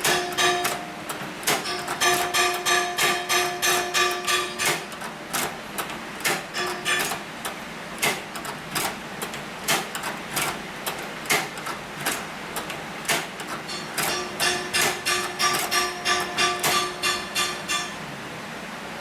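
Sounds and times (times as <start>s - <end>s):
hand-crank sewing machine clacking: 0.0s - 18.0s.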